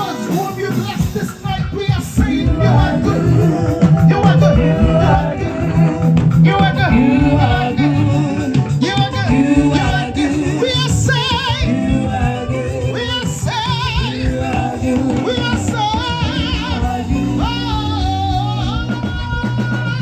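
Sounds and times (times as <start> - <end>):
gospel band with bass and guitar: 0.0 - 20.0
woman singing with vibrato: 2.2 - 20.0.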